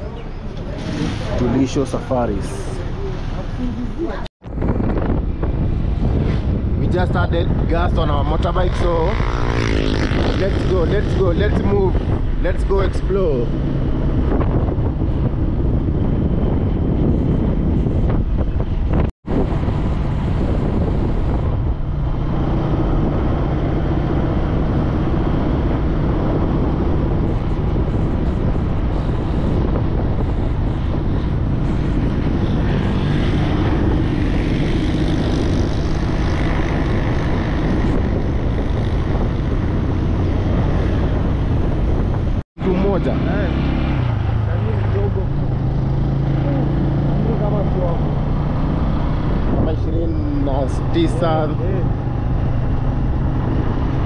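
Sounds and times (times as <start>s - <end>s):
road noise: 0.0s - 54.0s
wind rushing: 0.7s - 54.0s.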